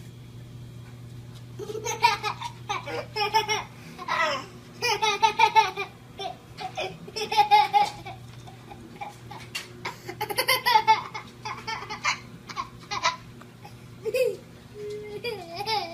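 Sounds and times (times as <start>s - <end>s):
baby laughing: 1.6s - 15.9s.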